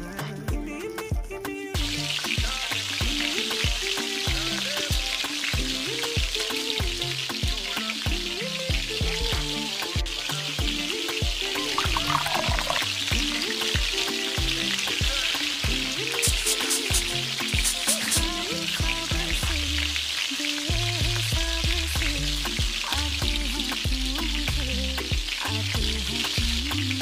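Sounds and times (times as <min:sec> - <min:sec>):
background music with steady beat: 0:00.0 - 0:27.0
leaves sizzling in hot oil: 0:01.6 - 0:27.0.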